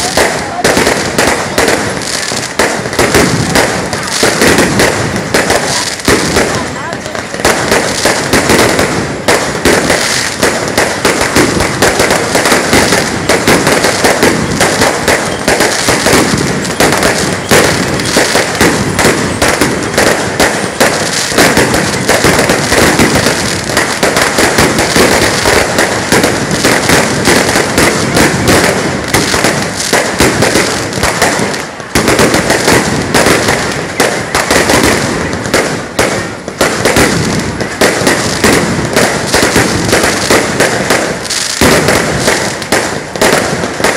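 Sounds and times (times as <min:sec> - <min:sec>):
firecrackers crackling: 0:00.0 - 0:43.9.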